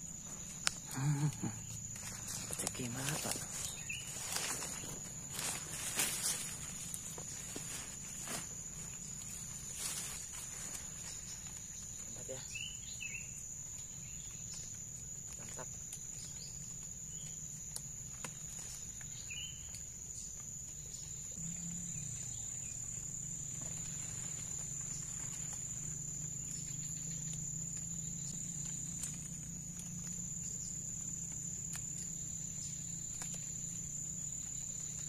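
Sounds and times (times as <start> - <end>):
insect chorus drone: 0.0 - 35.0.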